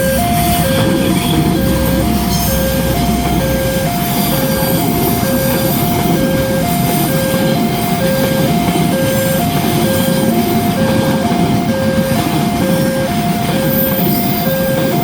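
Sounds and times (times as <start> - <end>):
level-crossing two-tone siren: 0.0 - 15.0
train rumbling past: 0.0 - 15.0.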